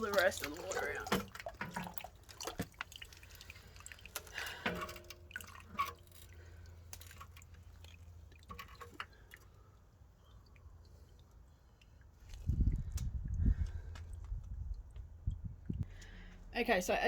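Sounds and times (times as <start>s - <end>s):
water dripping and trickling: 0.0s - 16.2s.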